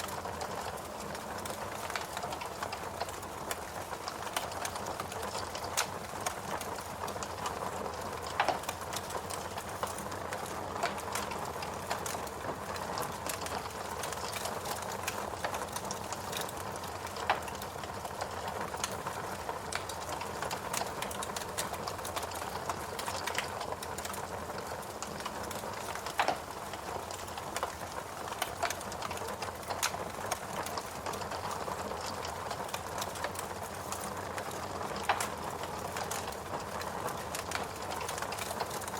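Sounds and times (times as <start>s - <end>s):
fireplace crackling: 0.0s - 38.9s.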